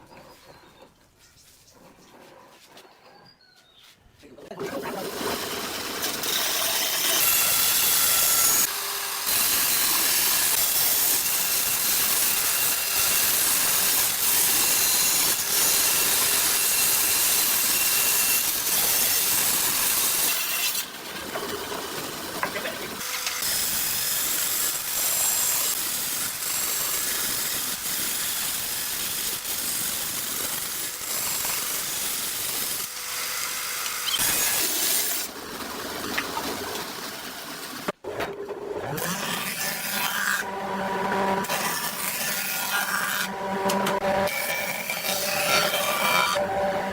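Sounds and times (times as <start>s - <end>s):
power tool whirring on hardwood: 5.0s - 38.0s, 38.8s - 46.9s.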